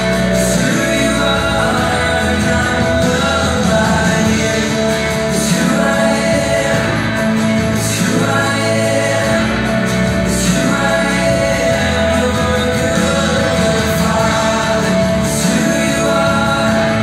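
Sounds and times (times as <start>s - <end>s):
people singing: 0.0s - 17.0s.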